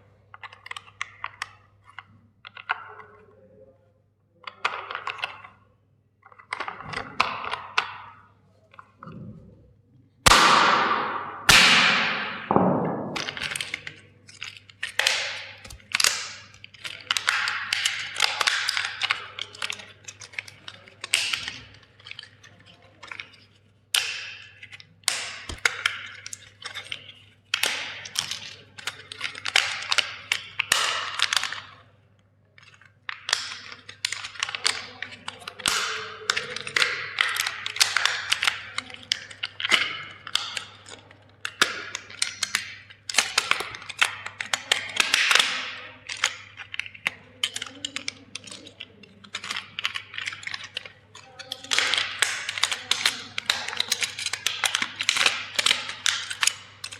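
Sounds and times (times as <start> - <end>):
plastic toy crackling and snapping: 0.4 - 3.4, 10.2 - 31.9, 32.5 - 56.9.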